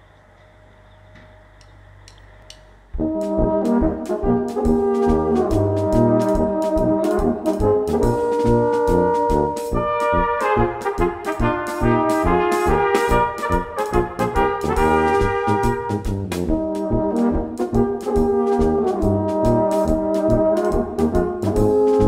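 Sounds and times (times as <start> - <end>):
brass band music: 3.0 - 22.0.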